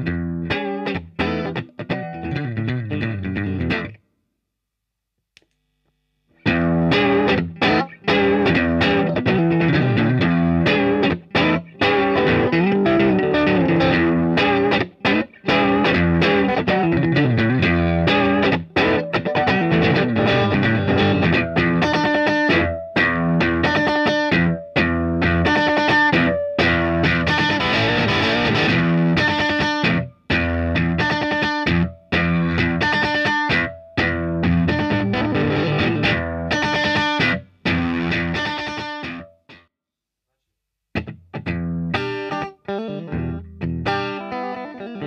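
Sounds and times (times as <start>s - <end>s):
electric guitar playing: 0.0s - 4.0s, 6.4s - 39.6s, 41.0s - 45.0s
overdriven guitar riff: 0.0s - 4.0s, 6.4s - 39.7s, 40.9s - 45.0s.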